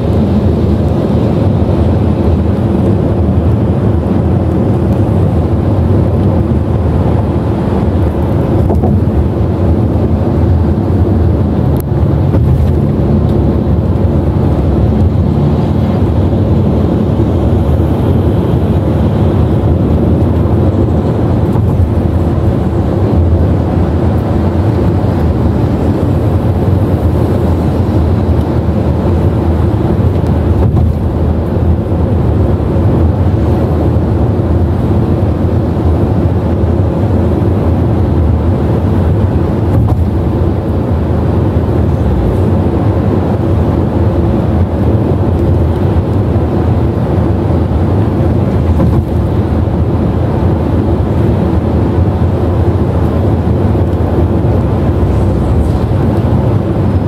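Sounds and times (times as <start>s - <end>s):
car driving on highway interior: 0.0s - 57.0s.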